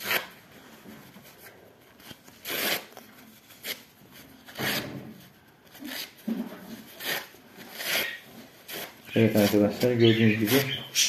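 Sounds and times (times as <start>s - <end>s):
paper rustling: 0.0s - 11.0s.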